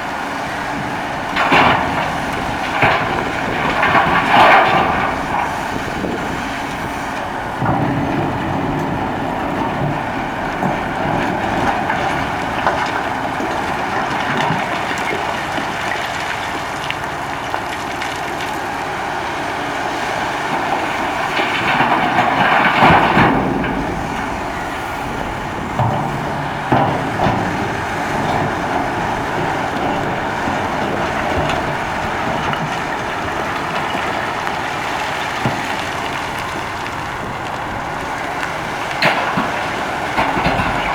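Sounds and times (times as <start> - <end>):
excavator diesel engine and hydraulics: 0.0 - 40.9.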